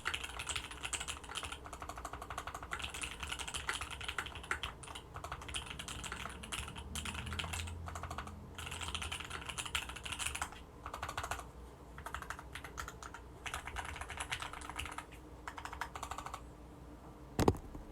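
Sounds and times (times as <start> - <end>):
mechanical keyboard typing: 0.0 - 16.4.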